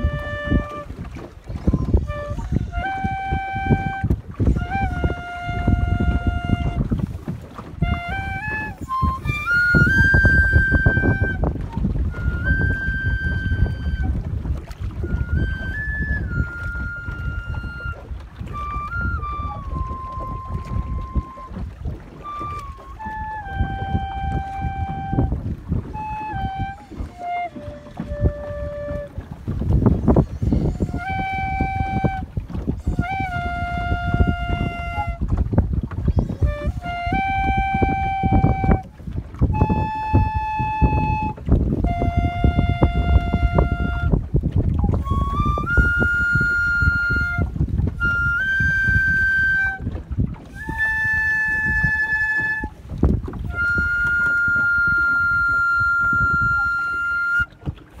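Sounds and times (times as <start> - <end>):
boat and wind rumble: 0.0 - 58.0
flute long held notes: 0.0 - 58.0.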